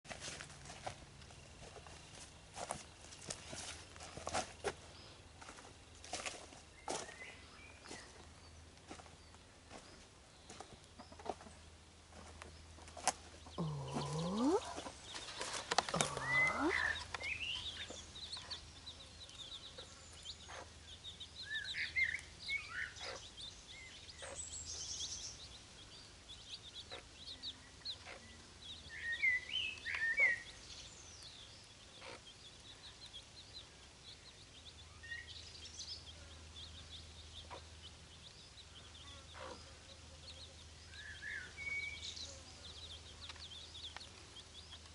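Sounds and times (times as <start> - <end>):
chicks peeping: 0.8 - 44.9.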